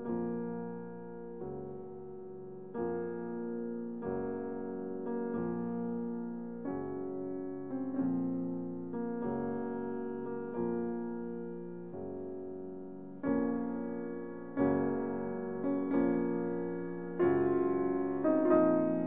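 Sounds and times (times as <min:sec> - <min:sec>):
slow gentle piano chords: 0:00.0 - 0:19.0.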